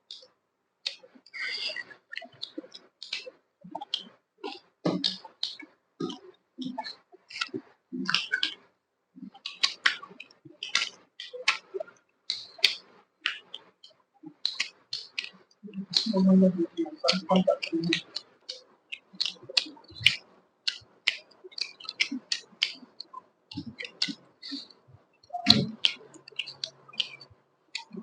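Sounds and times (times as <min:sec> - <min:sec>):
mouth clicks and smacks: 0:00.1 - 0:28.0.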